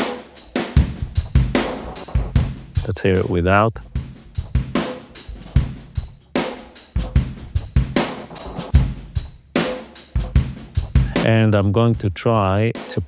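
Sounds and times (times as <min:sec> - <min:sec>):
drum kit groove: 0:00.0 - 0:13.0.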